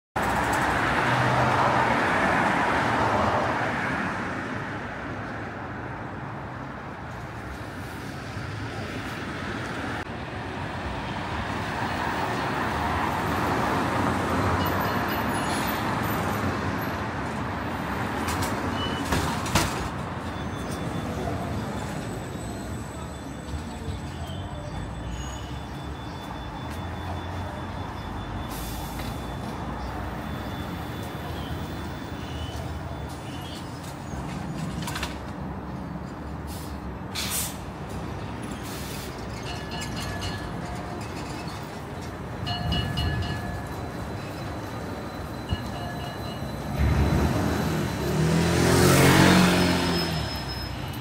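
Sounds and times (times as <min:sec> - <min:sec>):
passing vehicles rushing: 0:00.2 - 0:24.0, 0:24.7 - 0:51.0.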